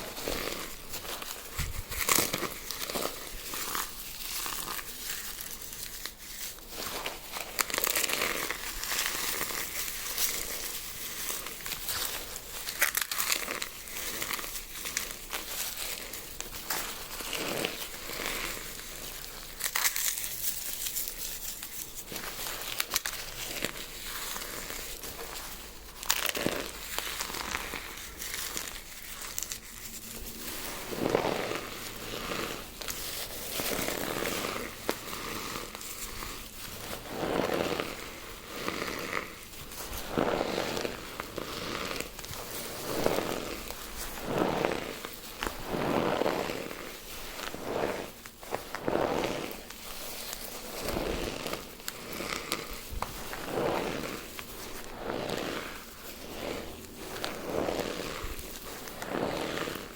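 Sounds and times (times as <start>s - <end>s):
eggshells and petals being crushed: 0.0s - 59.9s.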